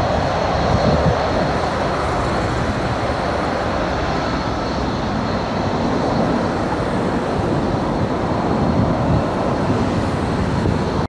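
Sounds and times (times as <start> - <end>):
high engine whine: 0.0 - 11.0
jet engines rumbling: 0.0 - 11.0.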